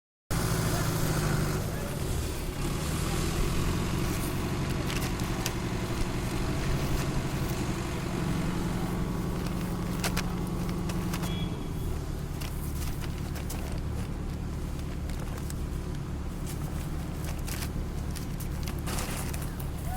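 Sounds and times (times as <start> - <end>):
vehicle engine running: 0.3 - 19.9.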